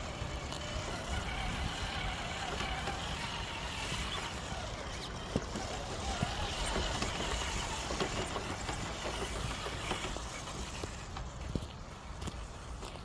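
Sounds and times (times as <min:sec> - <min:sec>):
toy car motor whining: 0:00.0 - 0:11.4
distant highway traffic rumble: 0:00.0 - 0:13.0.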